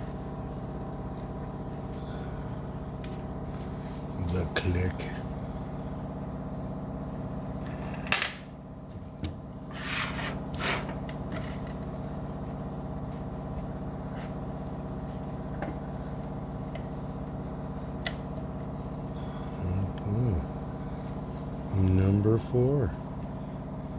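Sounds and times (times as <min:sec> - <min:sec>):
steady background hum: 0:00.0 - 0:23.9.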